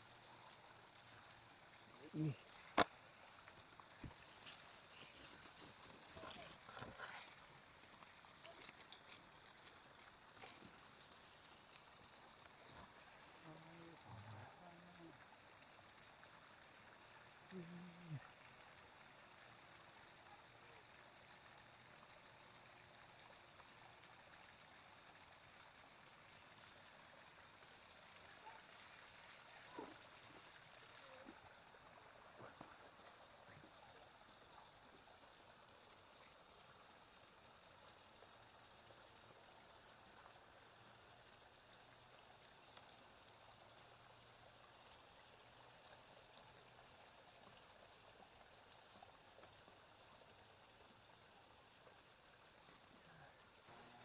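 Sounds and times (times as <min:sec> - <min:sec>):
faint outdoor hiss: 0:00.0 - 0:54.0.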